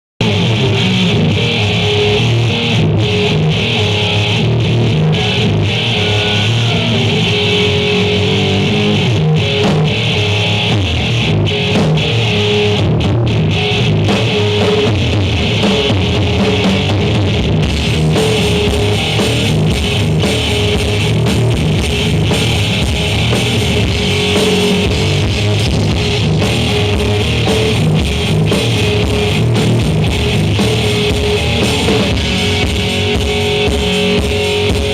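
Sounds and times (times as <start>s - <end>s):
drum kit: 0.2s - 34.9s
electric guitar: 0.2s - 34.9s.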